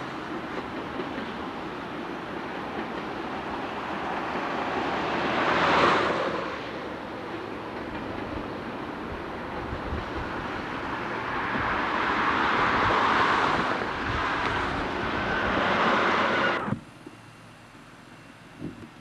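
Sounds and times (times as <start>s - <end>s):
freight train rolling past: 0.0s - 16.6s.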